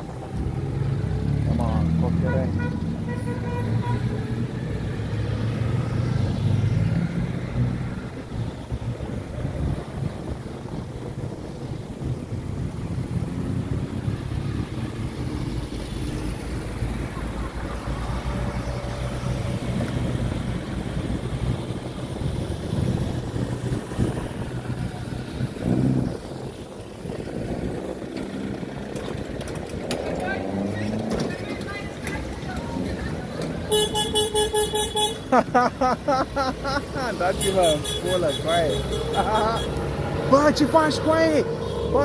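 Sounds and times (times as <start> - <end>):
cars driving past: 0.0 - 42.0
road train rolling by: 0.0 - 42.0.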